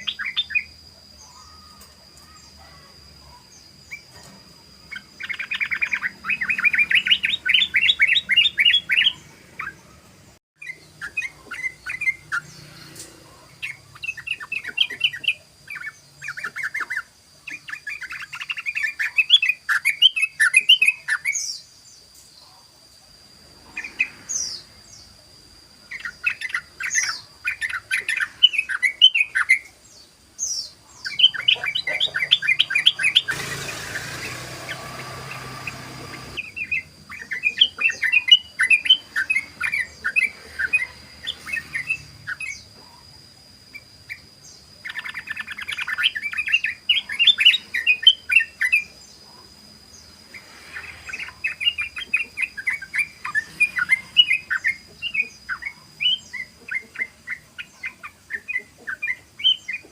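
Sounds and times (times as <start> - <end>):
bulbul singing: 0.0 - 22.2, 23.7 - 59.9.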